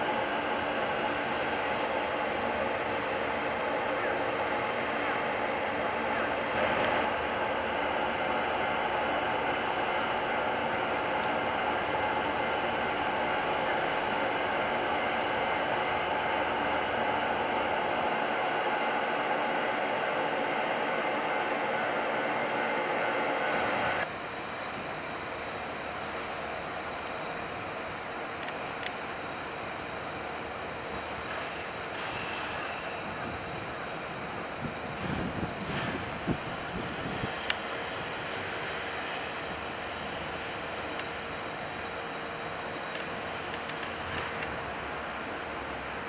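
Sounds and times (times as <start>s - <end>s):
locomotive cooling blowers whirring: 0.0s - 46.0s
train wheels rumbling on rail: 0.0s - 46.0s.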